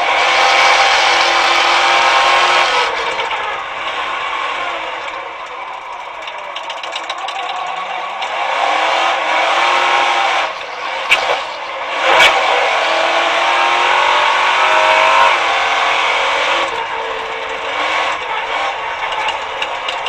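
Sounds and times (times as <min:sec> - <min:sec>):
racing car engine revving: 0:00.0 - 0:20.0.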